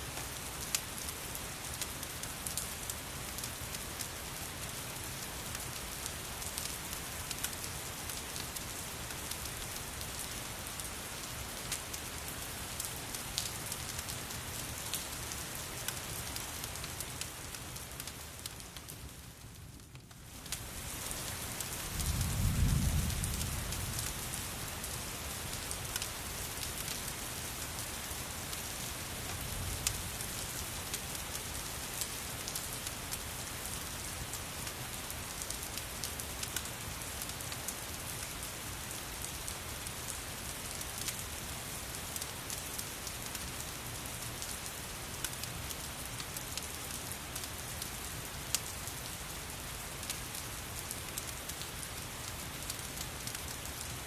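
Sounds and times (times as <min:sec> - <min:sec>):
rain falling: 0:00.0 - 0:54.0
wood fire crackling: 0:00.1 - 0:54.0.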